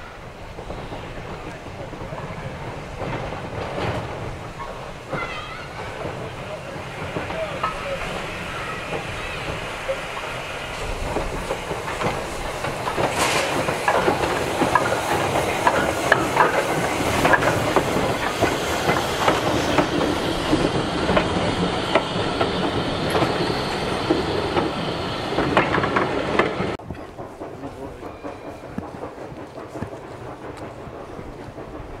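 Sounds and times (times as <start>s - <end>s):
steam hiss: 0.0s - 32.0s
steam locomotives passing: 0.0s - 32.0s
wheels clanking over rail joints: 0.0s - 32.0s.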